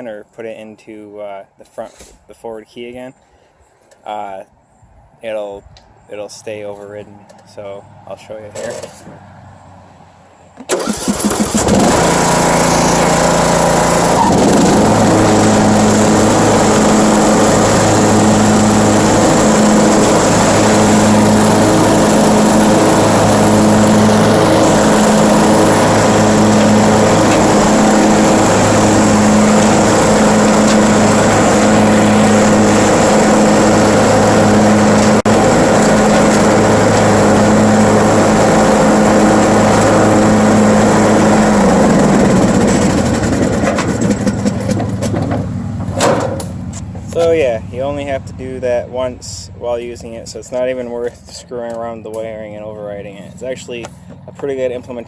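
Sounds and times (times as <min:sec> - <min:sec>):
lawn mower engine starting and running: 0:07.2 - 0:55.0.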